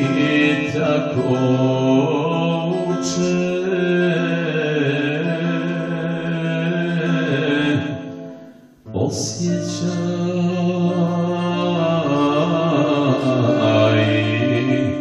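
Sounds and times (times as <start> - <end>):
acoustic guitar: 0.0 - 15.0
man singing: 0.0 - 15.0.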